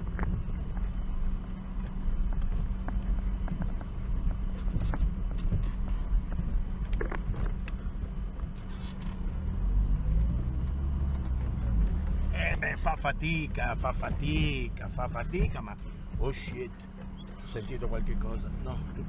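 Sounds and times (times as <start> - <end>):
rattles and knocks in cab: 0.0 - 1.1, 1.7 - 9.4, 11.1 - 19.0
van engine drone: 0.0 - 19.0.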